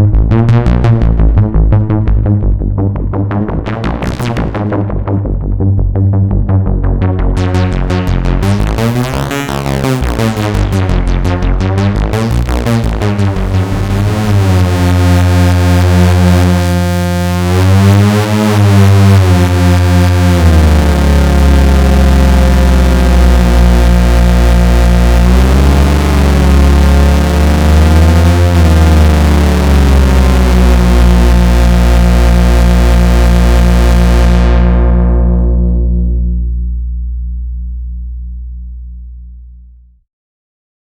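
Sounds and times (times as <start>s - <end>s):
analog synthesizer notes: 0.0s - 39.9s.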